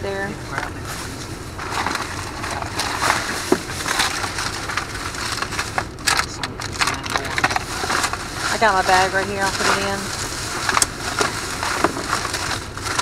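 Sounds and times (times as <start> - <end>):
plastic bags crinkling: 0.8 - 13.0.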